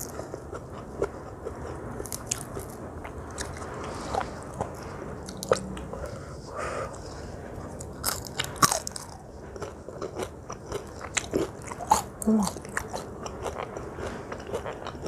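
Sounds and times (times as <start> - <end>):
chewing and crunching fried fish: 0.0 - 6.1, 7.6 - 15.0.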